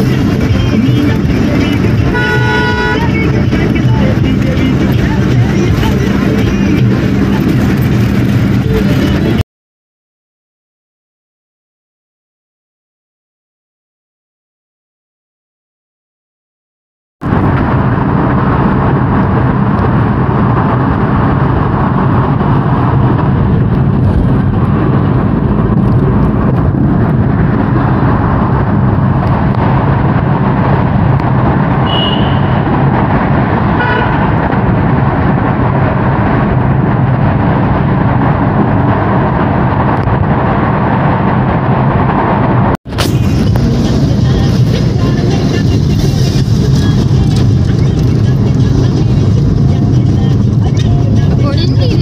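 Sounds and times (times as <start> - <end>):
car driving through tunnel: 0.0 - 9.4, 17.2 - 52.0.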